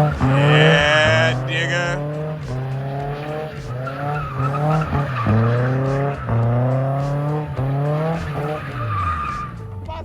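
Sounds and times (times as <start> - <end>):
car engine revving: 0.0 - 10.0
tire squeal: 0.0 - 10.0.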